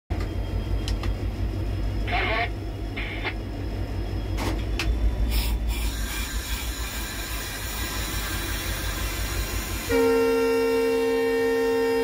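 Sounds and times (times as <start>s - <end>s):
diesel engine low rumble: 0.1s - 12.0s.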